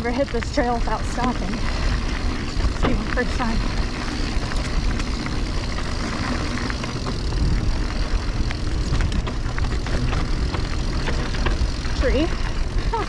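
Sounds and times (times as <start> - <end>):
bike rattling clicks and knocks: 0.0 - 13.0
wind and tyres rolling over rock: 0.0 - 13.0.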